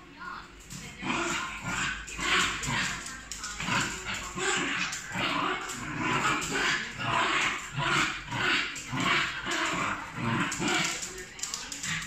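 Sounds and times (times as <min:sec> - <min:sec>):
dogs growling and snarling: 0:00.6 - 0:12.0.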